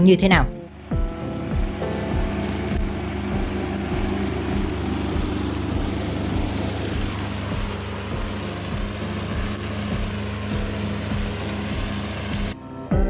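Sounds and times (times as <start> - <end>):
diesel mower engine running: 0.0 - 13.0.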